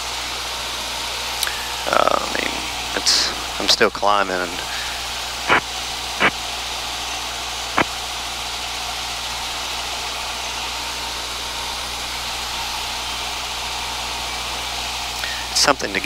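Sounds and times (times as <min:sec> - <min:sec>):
aircraft cabin engine and propeller: 0:00.0 - 0:16.0.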